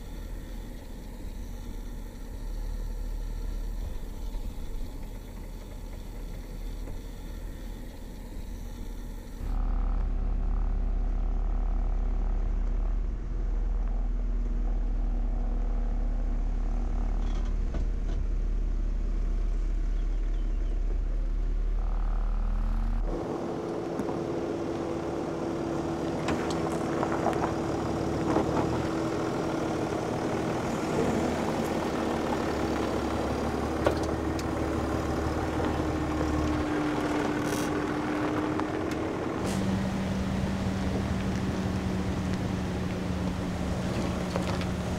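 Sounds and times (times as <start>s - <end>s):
engine running at low revs: 0.0s - 44.9s
gravel crackling under tyres: 0.0s - 44.9s.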